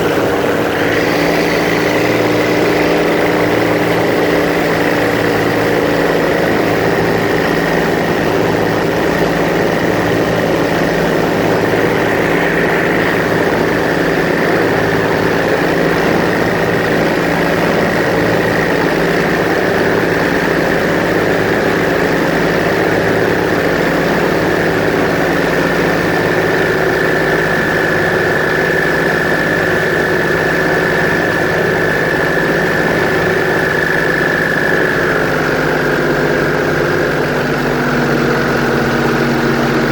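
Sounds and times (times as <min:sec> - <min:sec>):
airboat engine and propeller droning: 0:00.0 - 0:39.9.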